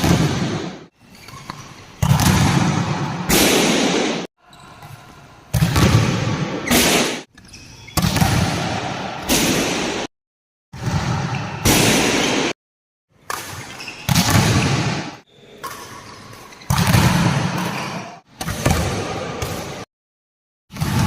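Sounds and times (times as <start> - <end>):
noisy court sound: 0.0 - 10.1, 10.8 - 19.9, 20.7 - 21.0.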